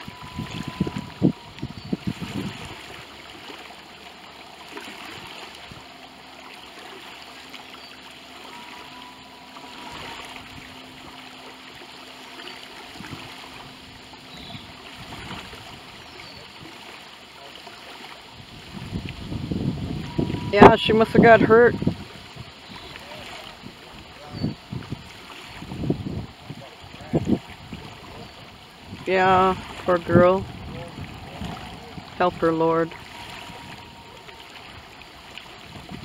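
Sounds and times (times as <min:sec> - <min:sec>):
soft hiss of water and air: 0:00.0 - 0:36.0.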